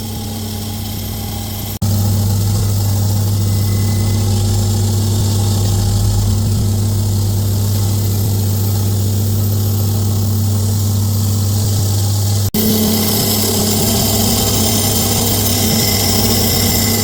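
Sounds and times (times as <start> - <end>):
power tool motor humming: 0.0 - 17.0.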